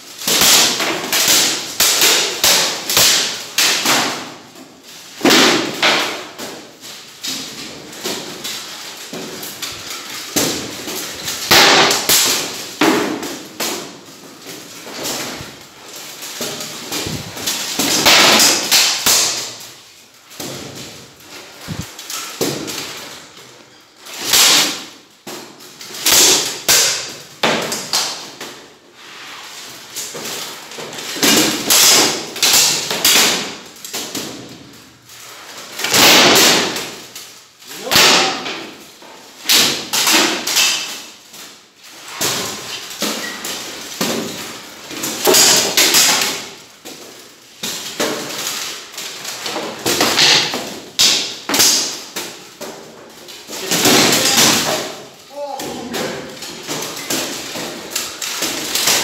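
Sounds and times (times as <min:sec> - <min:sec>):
swords striking shields and armour: 0:00.2 - 0:04.5, 0:05.2 - 0:19.6, 0:21.6 - 0:23.4, 0:24.1 - 0:28.6, 0:30.0 - 0:34.7, 0:35.8 - 0:38.8, 0:39.4 - 0:41.1, 0:42.1 - 0:59.0.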